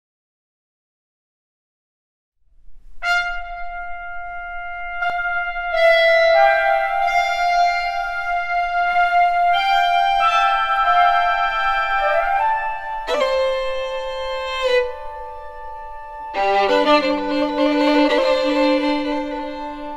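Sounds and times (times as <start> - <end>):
orchestral wind instruments: 3.0 - 19.9.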